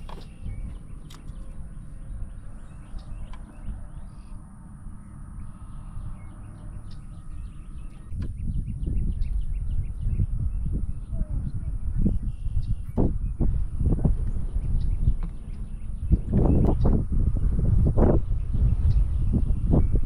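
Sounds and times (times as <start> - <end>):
small birds chirping: 0.0 - 20.0
wind rumbling on microphone: 0.0 - 20.0.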